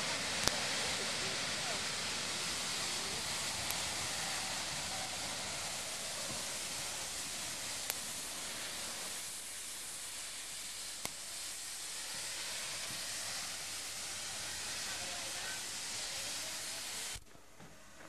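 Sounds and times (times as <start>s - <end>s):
steam hissing from locomotive: 0.0s - 18.0s.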